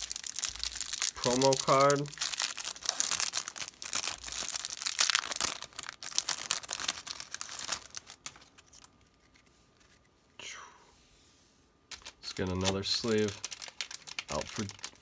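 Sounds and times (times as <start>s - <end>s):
plastic wrapper crinkling and tearing: 0.0s - 9.4s, 11.9s - 15.0s.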